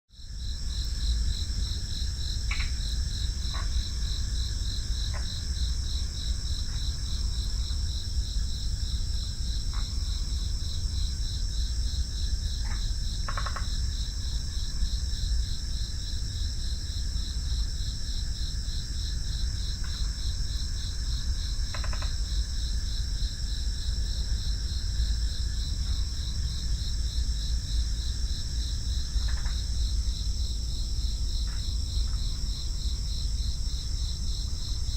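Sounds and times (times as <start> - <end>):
continuous high buzz: 0.2 - 34.9
crickets trilling: 0.2 - 34.9.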